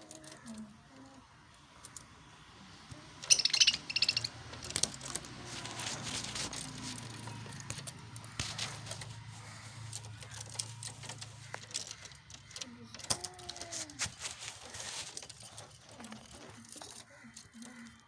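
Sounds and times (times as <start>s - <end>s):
birds chirping: 0.2s - 18.0s.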